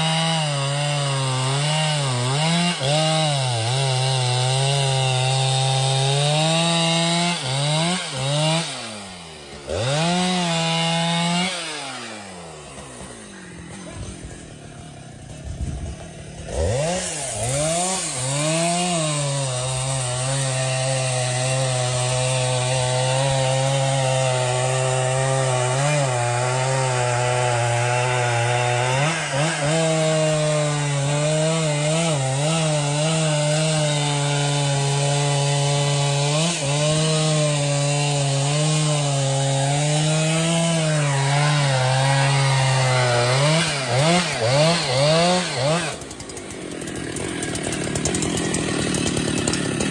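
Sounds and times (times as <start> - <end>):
chainsaw cutting into tree: 0.0 - 49.9.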